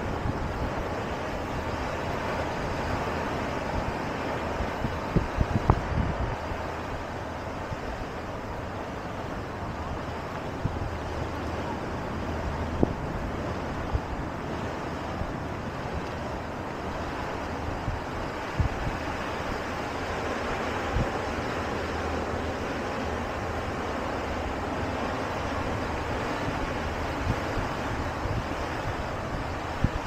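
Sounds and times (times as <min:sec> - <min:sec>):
surf rushing: 0:00.0 - 0:30.0
wind buffeting microphone: 0:00.0 - 0:30.0.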